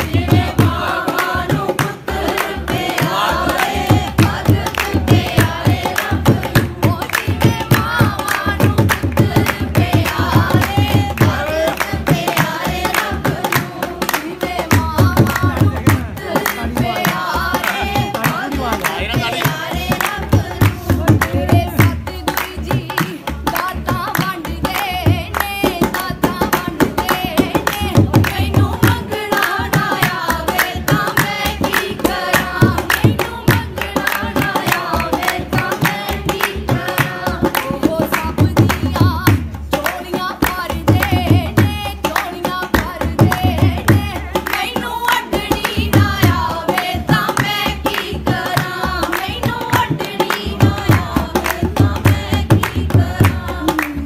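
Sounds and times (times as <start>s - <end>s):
people singing hymns: 0.0s - 54.0s.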